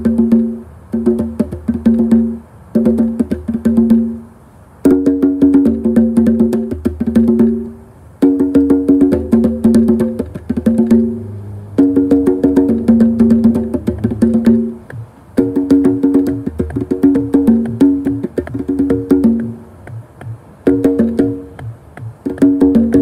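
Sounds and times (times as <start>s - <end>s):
congas played by hand: 0.0s - 23.0s.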